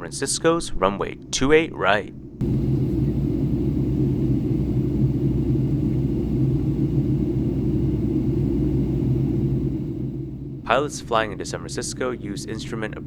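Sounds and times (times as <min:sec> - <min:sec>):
low hums: 0:02.3 - 0:13.0
aircraft cabin engine rumble: 0:02.4 - 0:13.0.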